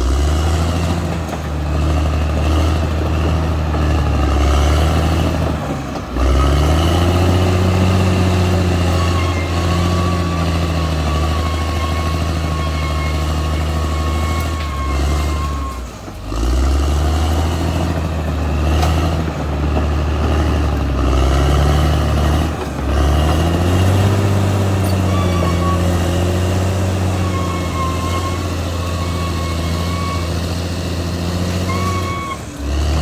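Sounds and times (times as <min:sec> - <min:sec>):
bulldozer diesel engine working: 0:00.0 - 0:33.0.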